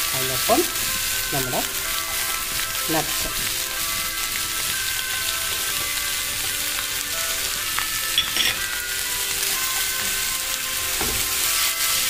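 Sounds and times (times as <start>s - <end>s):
nuts sizzling in a frying pan: 0.0s - 12.0s.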